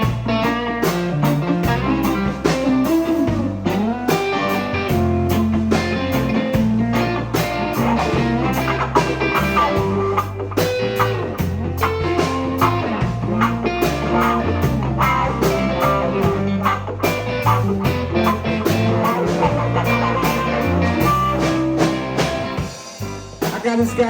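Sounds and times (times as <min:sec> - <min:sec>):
electric guitar: 0:00.0 - 0:24.0
steady drum beat: 0:00.0 - 0:24.0
walking bass line: 0:00.0 - 0:24.0.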